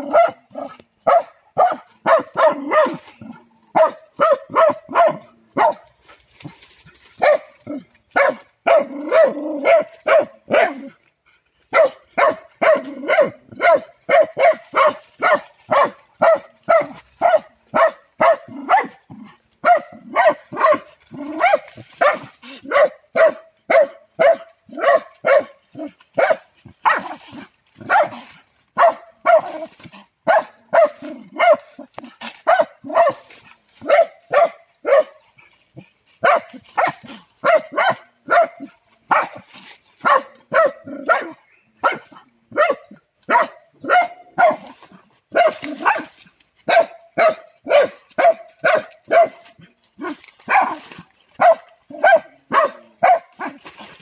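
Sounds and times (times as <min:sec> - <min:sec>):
dog barking: 0:00.0 - 0:05.9, 0:07.2 - 0:10.9, 0:11.7 - 0:19.0, 0:19.6 - 0:27.2, 0:27.8 - 0:28.2, 0:28.8 - 0:35.2, 0:36.2 - 0:50.8, 0:51.4 - 0:53.6.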